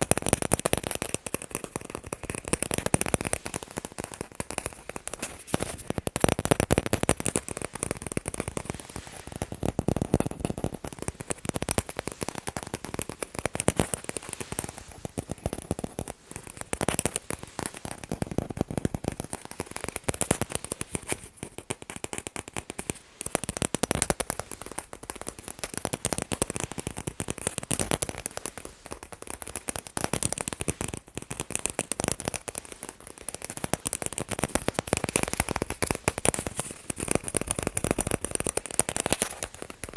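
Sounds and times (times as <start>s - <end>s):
fast tapping on balls: 0.0s - 39.9s.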